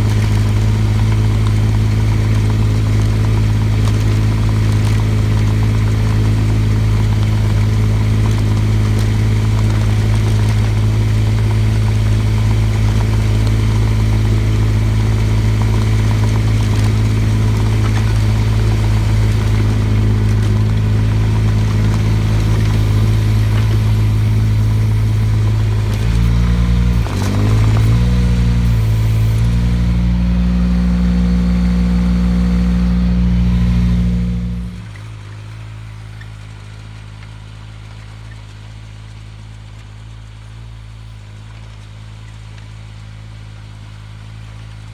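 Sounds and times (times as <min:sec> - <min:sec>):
excavator engine running: 0:00.0 - 0:44.9.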